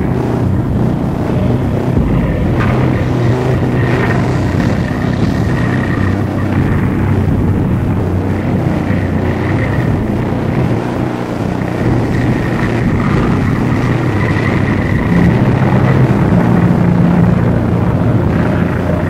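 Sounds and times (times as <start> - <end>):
dark ambient drone: 0.0 - 19.0.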